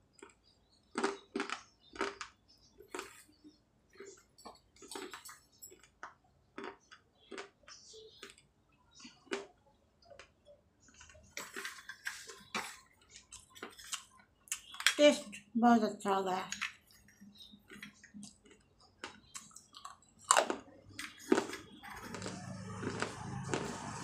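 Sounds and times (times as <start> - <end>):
clay being chewed crunching: 0.1 - 15.5, 16.5 - 24.0.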